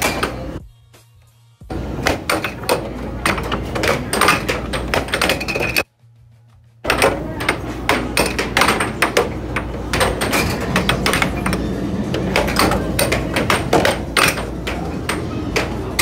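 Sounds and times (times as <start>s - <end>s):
air hockey puck clacking: 0.0s - 0.6s, 1.7s - 5.8s, 6.8s - 16.0s.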